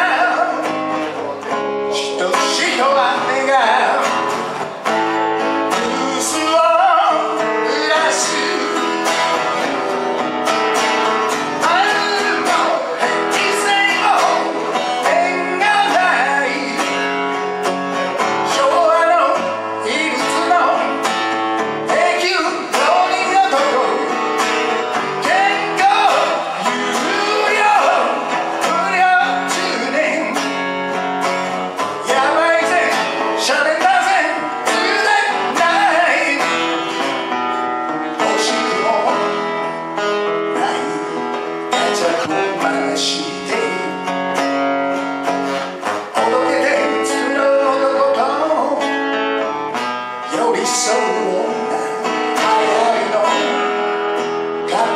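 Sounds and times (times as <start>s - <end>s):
man singing a ballad: 0.0s - 4.3s, 5.6s - 9.7s, 11.6s - 17.5s, 18.2s - 21.1s, 21.8s - 37.3s, 38.0s - 44.4s, 46.0s - 49.5s, 50.2s - 54.0s, 54.6s - 54.9s
acoustic guitar strumming: 0.0s - 54.9s.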